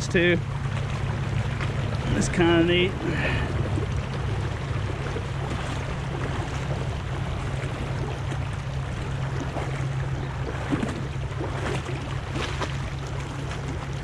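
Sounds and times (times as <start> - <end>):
creek water flowing: 0.0 - 14.0
wind rumble on microphone: 0.0 - 14.0.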